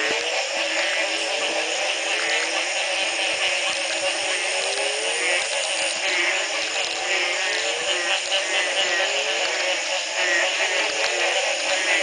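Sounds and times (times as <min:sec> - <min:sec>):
frogs with rising low calls: 0:00.0 - 0:12.0
high pulsing frog chorus: 0:00.0 - 0:12.0.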